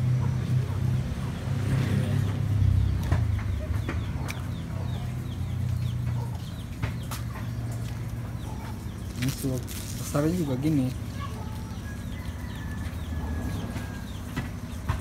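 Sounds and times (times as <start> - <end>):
chickens clucking: 2.1 - 15.0.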